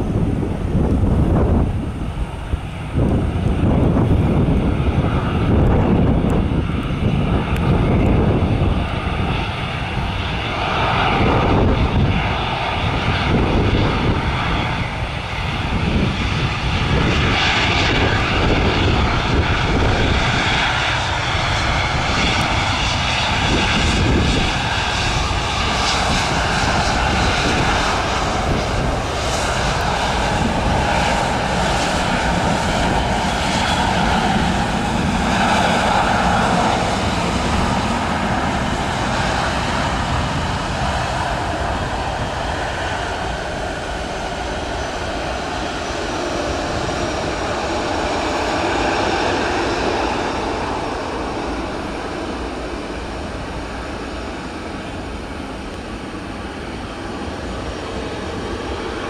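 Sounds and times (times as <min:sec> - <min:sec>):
jet engines whining and roaring: 0:00.0 - 0:59.0.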